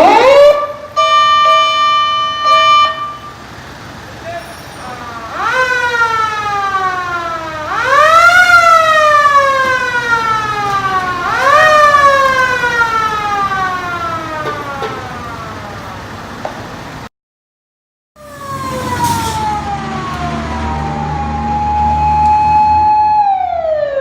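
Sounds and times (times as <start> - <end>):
fire engine siren wailing: 0.0 - 17.0, 18.2 - 24.0.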